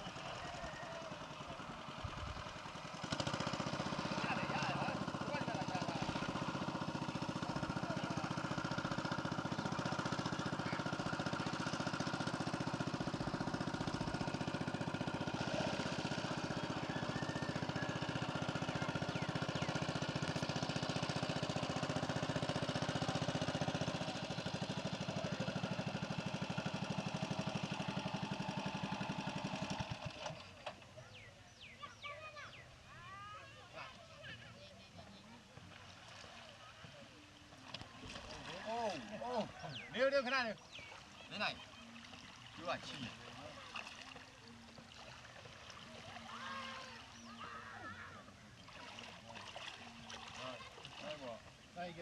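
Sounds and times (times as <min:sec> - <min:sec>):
small engine puttering: 0:00.0 - 0:32.6, 0:34.2 - 0:52.0.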